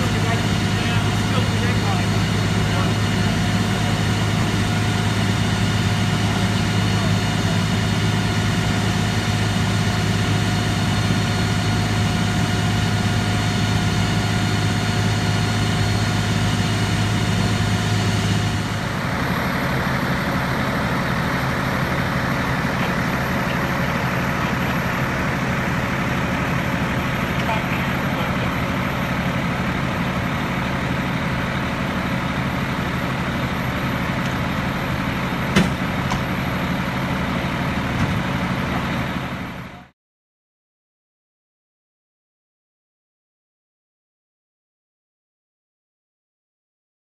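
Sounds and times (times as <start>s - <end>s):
fire engine running: 0.0s - 39.9s.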